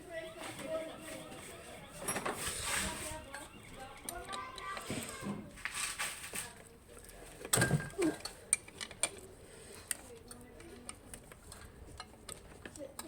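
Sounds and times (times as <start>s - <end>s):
clicks and clinks of small objects: 2.0s - 13.0s.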